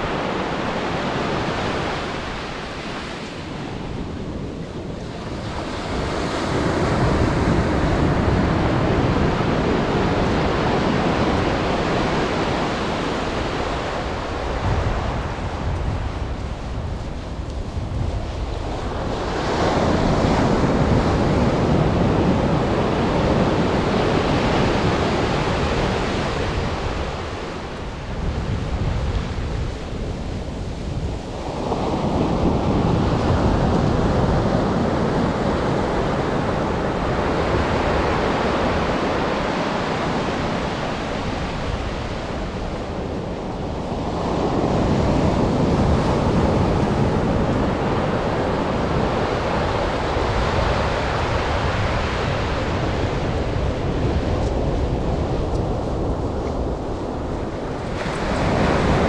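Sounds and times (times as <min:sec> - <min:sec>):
waves breaking on beach: 0:00.0 - 0:59.0
wind buffeting microphone: 0:00.0 - 0:59.0.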